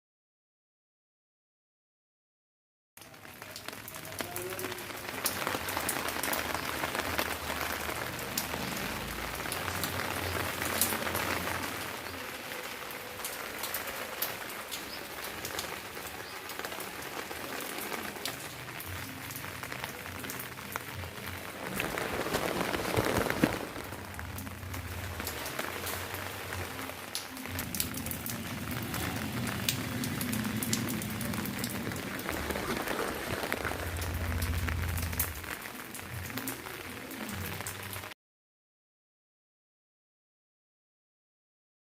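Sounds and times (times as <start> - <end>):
light rain falling: 3.0 - 38.2
raindrops ticking: 3.0 - 38.2.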